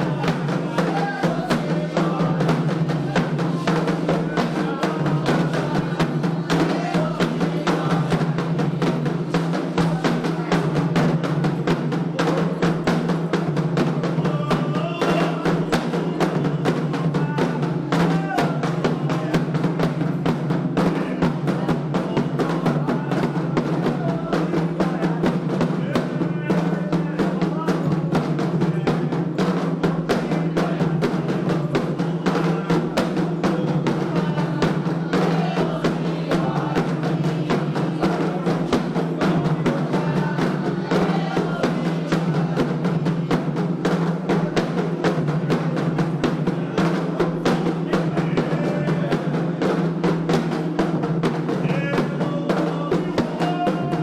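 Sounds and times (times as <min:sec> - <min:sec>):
fast hand drumming: 0:00.0 - 0:54.0.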